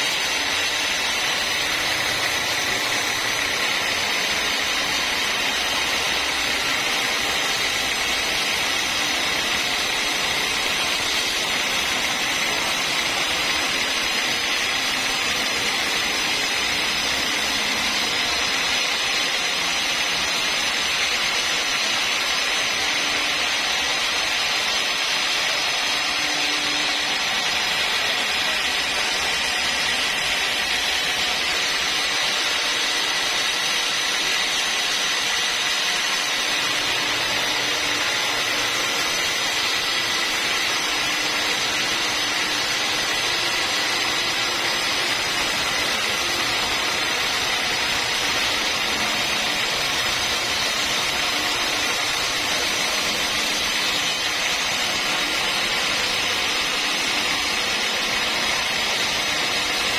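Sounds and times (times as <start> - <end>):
sawmill saw whining: 0.0 - 59.9.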